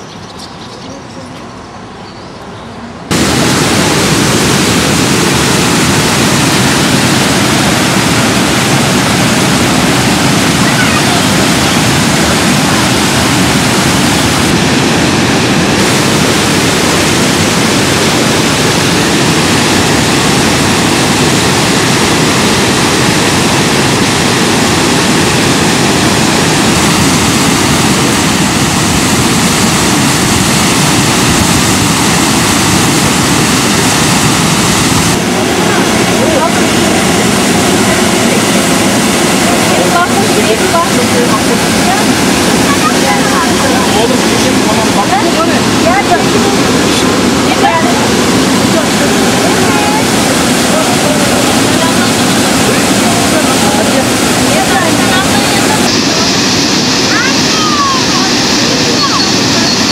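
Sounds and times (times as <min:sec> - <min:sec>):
waterfall rushing: 0:03.1 - 0:59.9.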